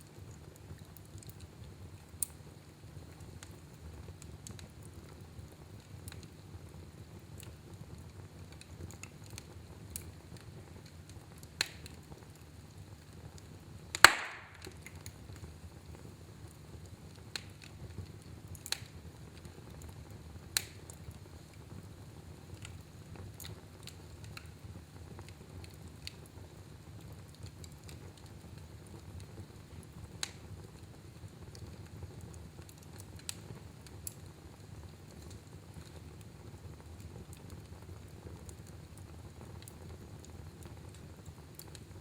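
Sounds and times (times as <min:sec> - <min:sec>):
low steady fire rumble: 0:00.0 - 0:42.0
wood fire crackling and popping: 0:00.0 - 0:42.0.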